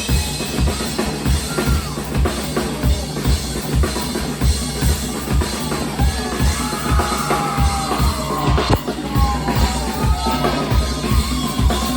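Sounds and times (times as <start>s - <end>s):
kick drum and snare beat: 0.0s - 11.9s
live band music: 0.0s - 11.9s.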